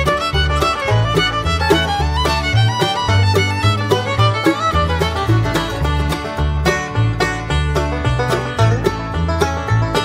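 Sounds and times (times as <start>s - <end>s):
lively fiddle tune with beat: 0.0s - 10.0s.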